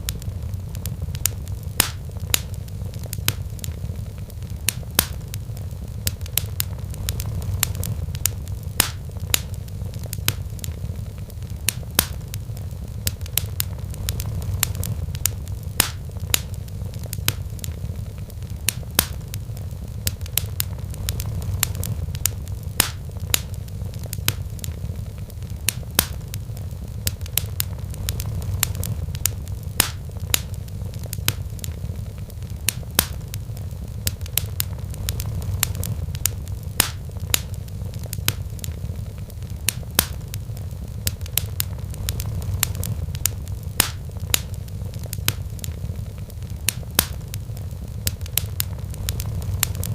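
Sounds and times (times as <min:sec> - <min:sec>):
low rumble: 0:00.0 - 0:49.9
wood fire crackling: 0:00.0 - 0:49.9.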